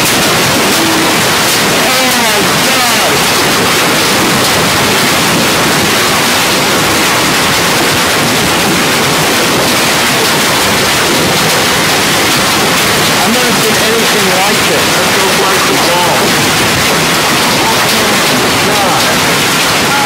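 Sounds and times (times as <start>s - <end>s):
hail and heavy rain pelting: 0.0s - 20.0s.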